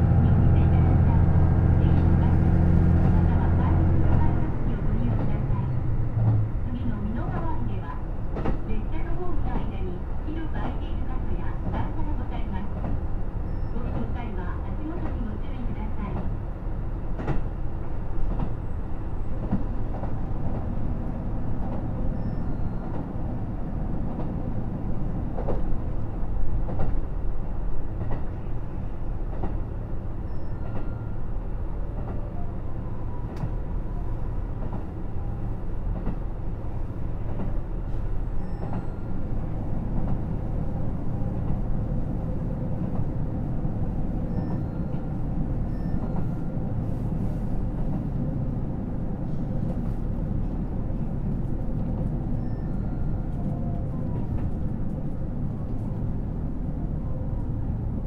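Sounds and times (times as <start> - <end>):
diesel railcar rumble: 0.0 - 58.0.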